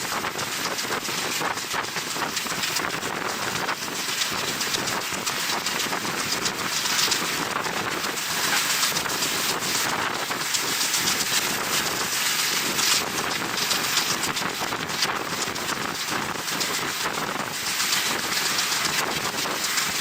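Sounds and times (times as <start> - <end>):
wind buffeting microphone: 0.0 - 20.0
passenger train running: 0.1 - 20.0.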